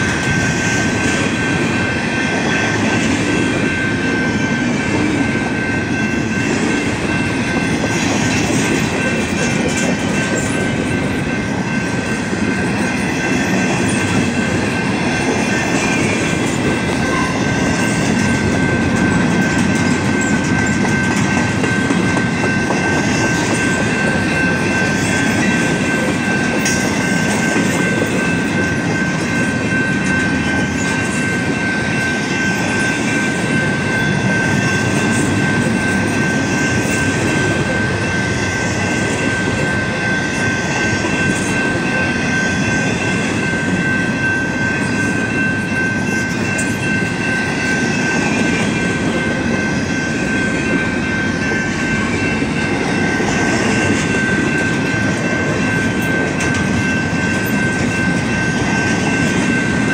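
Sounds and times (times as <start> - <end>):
steady high tone: 0.0 - 59.9
train wheels rumbling and clattering: 0.0 - 59.9.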